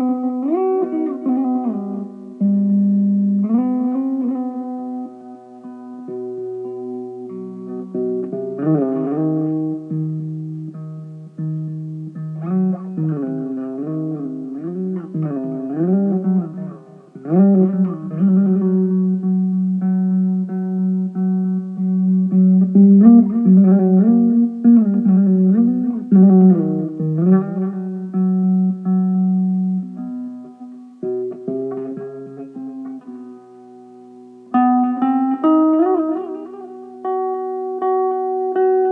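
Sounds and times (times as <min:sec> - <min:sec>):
electric mandolin melody: 0:00.0 - 0:38.9.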